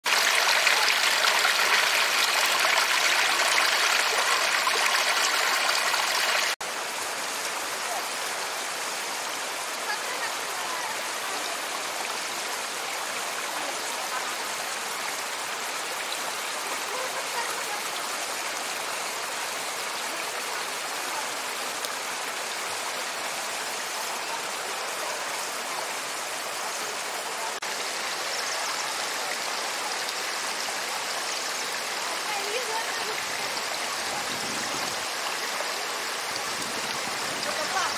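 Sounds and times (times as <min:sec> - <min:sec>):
river water rushing over rock: 0:00.1 - 0:37.9.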